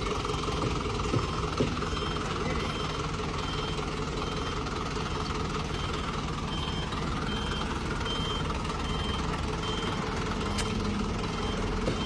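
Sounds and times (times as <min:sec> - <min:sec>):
diesel engine rumbling: 0:00.0 - 0:12.0
truck reversing alarm beeping: 0:00.0 - 0:12.0.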